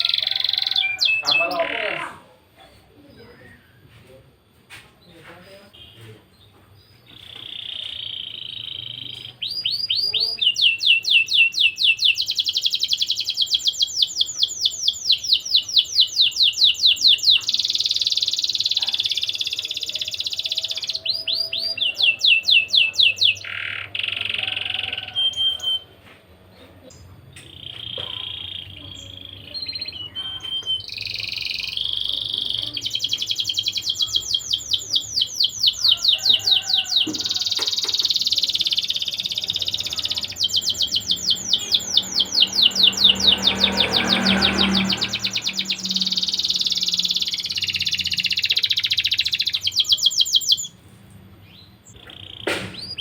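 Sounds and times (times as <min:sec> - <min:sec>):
canary singing trills: 0:00.0 - 0:04.0, 0:05.3 - 0:26.0, 0:26.6 - 0:50.8, 0:51.4 - 0:53.0.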